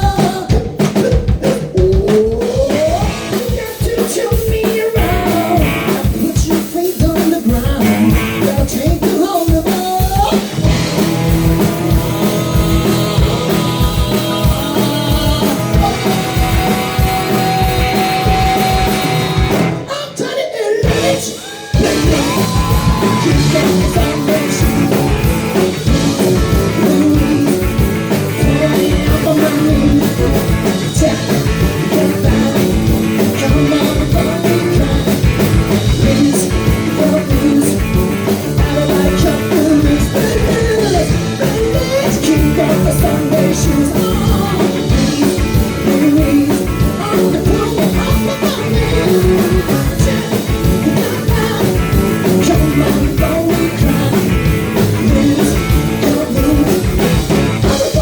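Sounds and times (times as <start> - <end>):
lead singer singing: 0.0 - 58.0
live rock band playing: 0.0 - 58.0.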